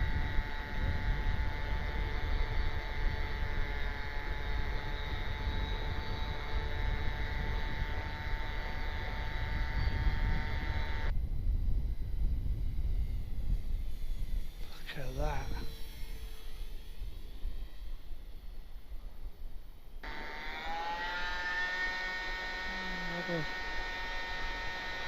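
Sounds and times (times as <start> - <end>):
constant low rumble: 0.0 - 25.0
model airplane motor whining: 0.0 - 25.0.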